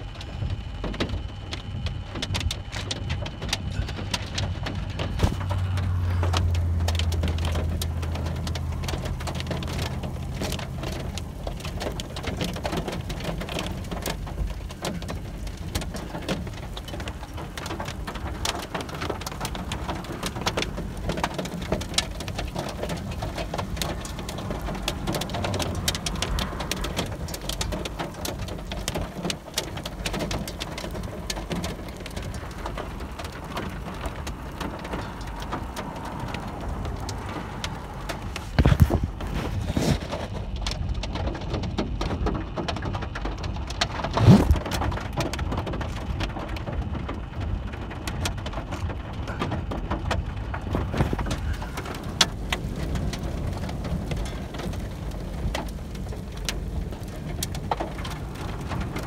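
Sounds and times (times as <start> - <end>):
low thunder rumble: 0.0 - 59.0
raindrops ticking: 0.0 - 59.0.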